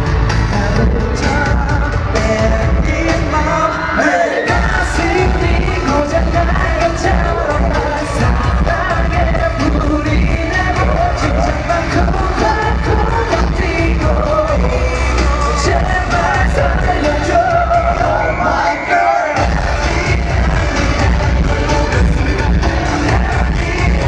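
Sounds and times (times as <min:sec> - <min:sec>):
backing track with heavy bass: 0:00.0 - 0:24.0
male group singing: 0:00.3 - 0:24.0.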